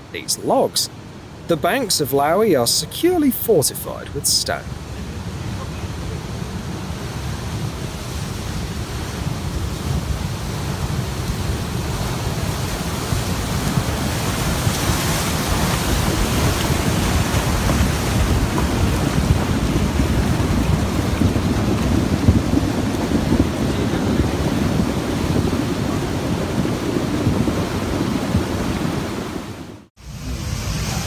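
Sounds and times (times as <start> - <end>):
river water rushing: 0.0 - 30.9.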